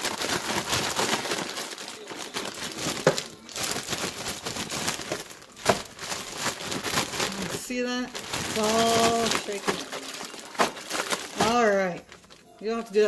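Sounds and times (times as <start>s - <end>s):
vegetable chunks tumbling in bag: 0.0s - 12.4s
plastic bag crinkling: 0.0s - 13.0s.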